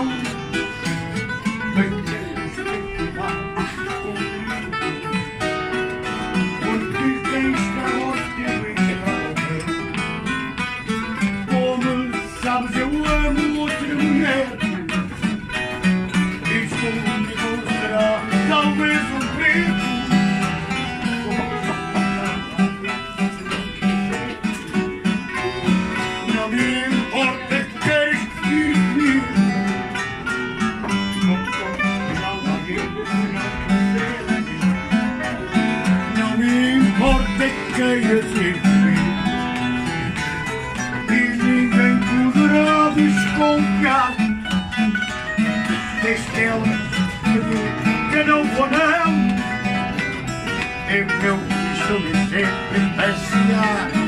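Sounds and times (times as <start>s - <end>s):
classical guitar chords: 0.0s - 54.0s
man singing: 0.0s - 54.0s
plucked guitar melody: 0.0s - 54.0s.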